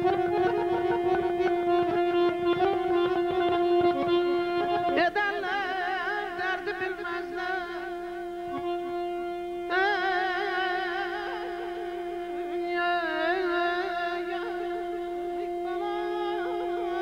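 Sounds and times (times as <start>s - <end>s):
button accordion folk music: 0.0s - 5.6s, 6.3s - 17.0s.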